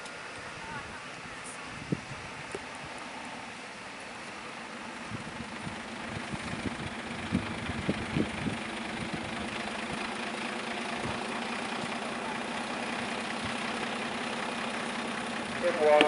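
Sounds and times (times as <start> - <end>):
engine hum: 0.0 - 16.0.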